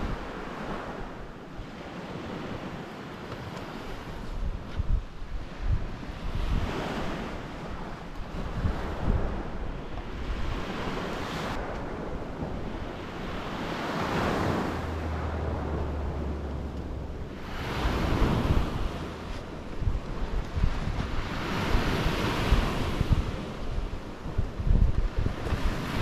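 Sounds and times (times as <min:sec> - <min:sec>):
sea waves breaking on a beach: 0:00.0 - 0:26.0
wind on microphone: 0:00.0 - 0:26.0.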